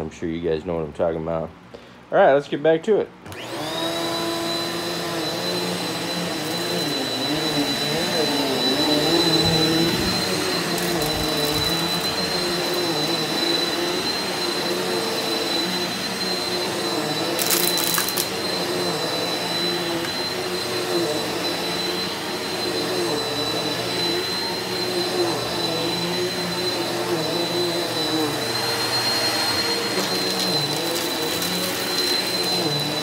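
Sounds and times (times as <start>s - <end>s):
vacuum cleaner running on carpet: 3.2s - 33.0s.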